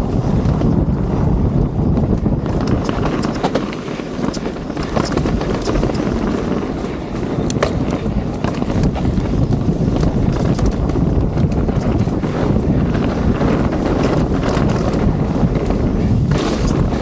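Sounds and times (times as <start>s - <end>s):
bike clicks and rattles: 0.0s - 17.0s
bike tyre roar on dirt: 0.0s - 17.0s
wind noise on microphone: 0.0s - 17.0s.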